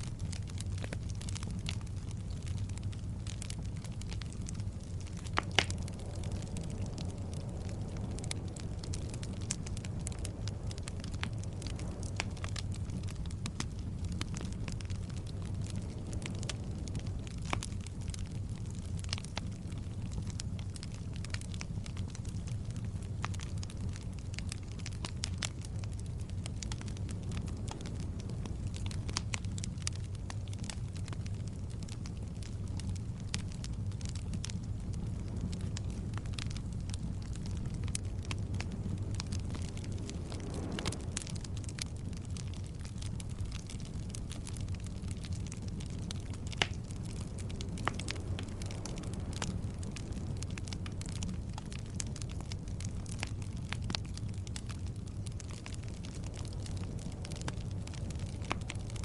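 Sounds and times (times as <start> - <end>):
low rumble: 0.0 - 59.0
wood fire crackling and popping: 0.0 - 59.0.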